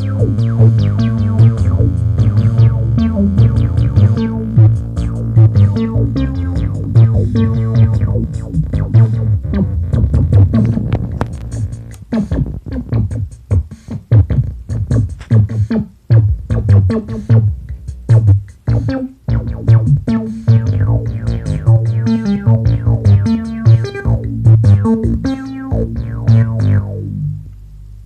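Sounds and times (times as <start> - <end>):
synthesizer sequence: 0.0 - 13.2, 18.1 - 27.5
drum machine hits: 0.0 - 27.1.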